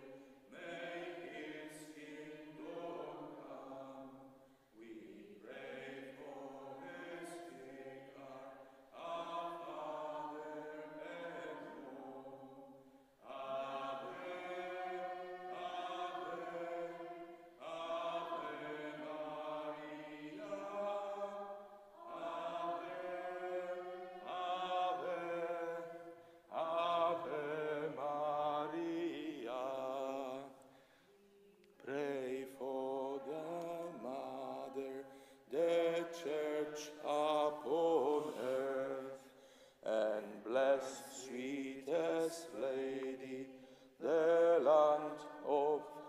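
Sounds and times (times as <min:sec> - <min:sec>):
congregation singing a hymn: 0:00.0 - 0:30.8, 0:31.8 - 0:46.0.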